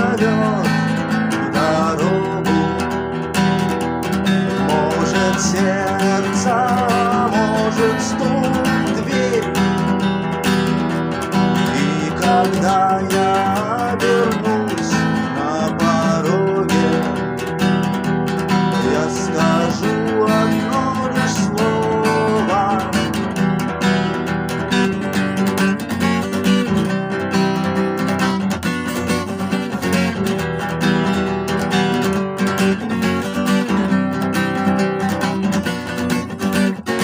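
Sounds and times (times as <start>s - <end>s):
acoustic guitar strumming chords: 0.0s - 37.0s.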